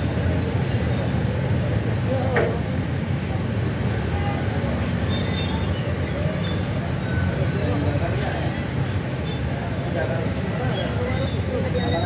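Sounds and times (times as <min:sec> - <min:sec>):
heavy traffic rumble: 0:00.0 - 0:12.0.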